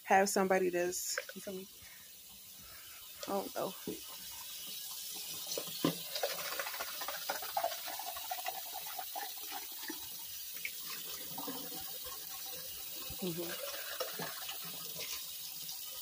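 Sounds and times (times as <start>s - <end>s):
water running: 0.0s - 16.0s.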